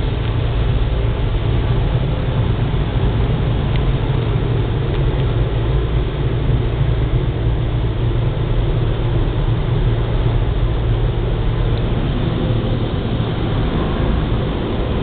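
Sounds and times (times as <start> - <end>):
car wash machinery humming: 0.0 - 15.0
rushing noise: 0.0 - 15.0.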